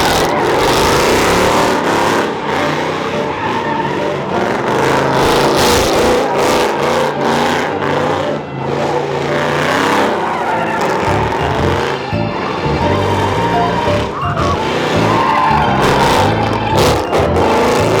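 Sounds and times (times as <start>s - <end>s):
car engines revving hard: 0.0s - 18.0s
tires squealing on pavement: 0.0s - 18.0s.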